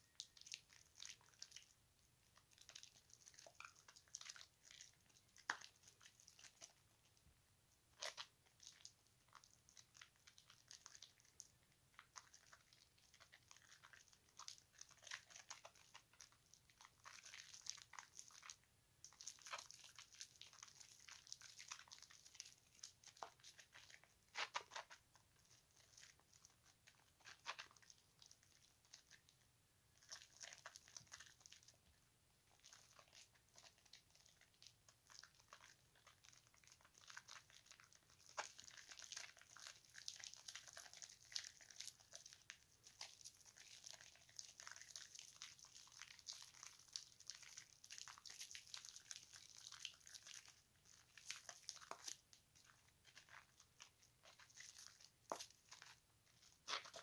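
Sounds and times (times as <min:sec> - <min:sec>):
soapy lather squishing: 0:00.0 - 0:07.2, 0:07.9 - 0:31.9, 0:32.5 - 0:57.0.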